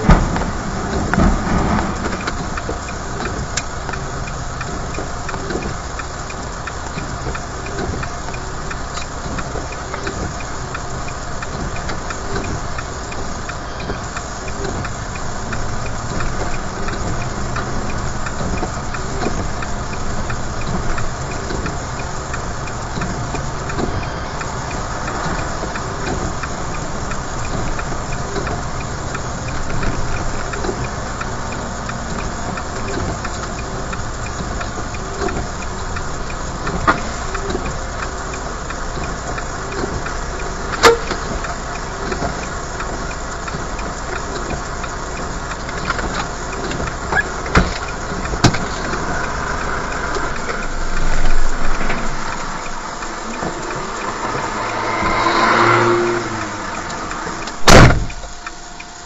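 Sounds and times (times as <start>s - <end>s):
road noise: 0.0s - 59.0s
vehicle engine running: 0.0s - 59.0s.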